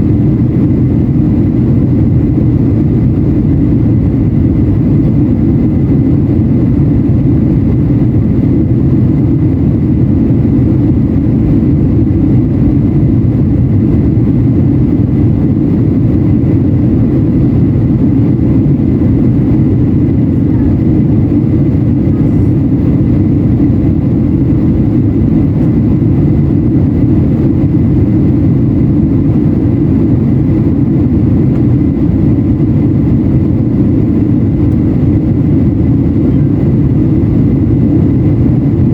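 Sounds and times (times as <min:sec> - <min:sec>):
jet cabin roar: 0:00.0 - 0:38.9.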